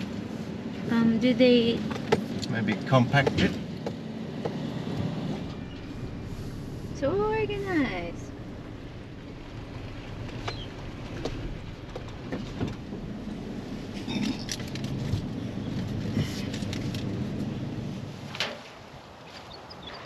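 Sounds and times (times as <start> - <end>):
engine and road noise in cab: 0.0 - 20.0.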